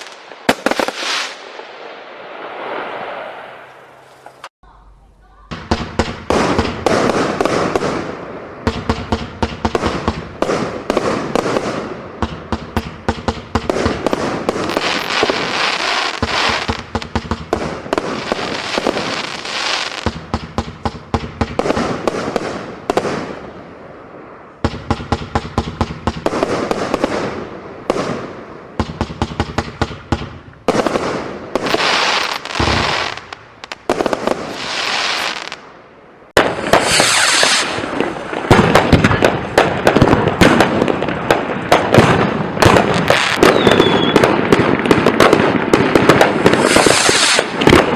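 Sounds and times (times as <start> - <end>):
fireworks banging and crackling: 0.0 - 4.5, 5.5 - 35.7, 36.3 - 47.9.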